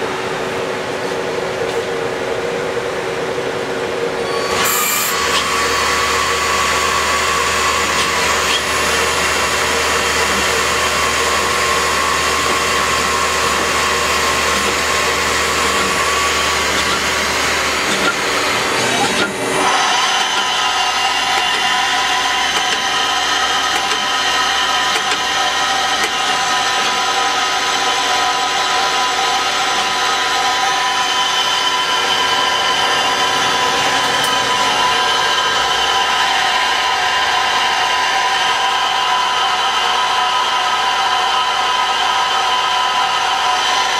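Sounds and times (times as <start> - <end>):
lathe machine whine: 0.0 - 43.9.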